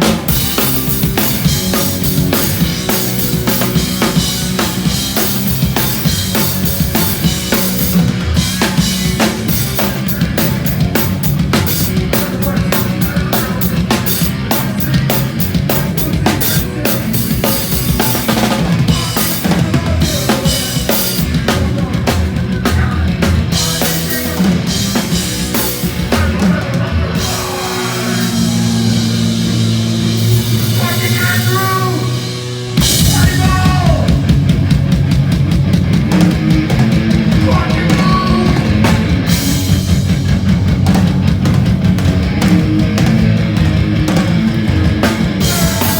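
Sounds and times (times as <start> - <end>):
punk band playing live: 0.0 - 45.9.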